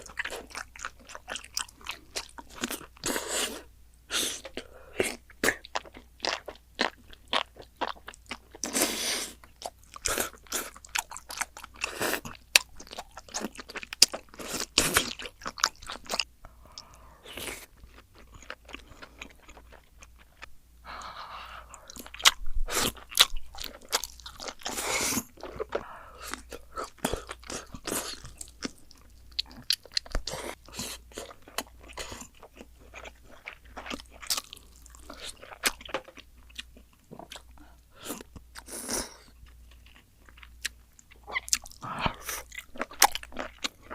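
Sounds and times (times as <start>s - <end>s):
crunching and chewing food: 0.0s - 20.5s, 21.7s - 43.9s.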